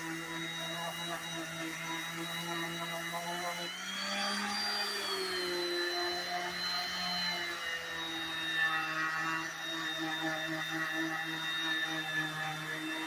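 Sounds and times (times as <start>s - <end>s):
electric sander motor humming: 0.0s - 13.0s.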